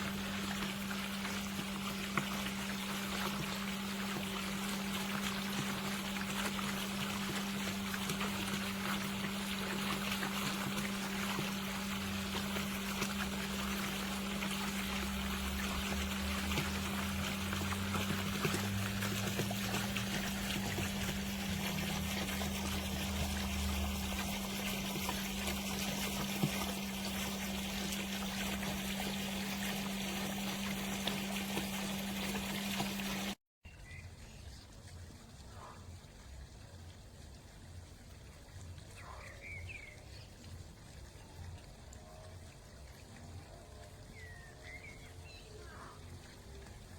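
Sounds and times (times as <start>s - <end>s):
fountain water splashing: 0.0s - 46.9s.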